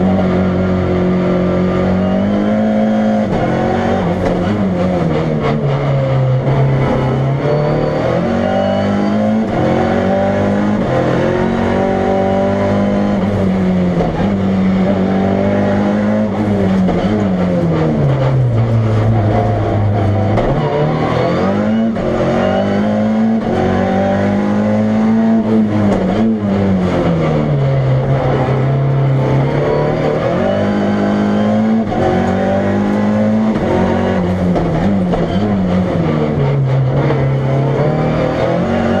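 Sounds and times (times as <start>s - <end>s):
race car engine accelerating: 0.0s - 39.0s.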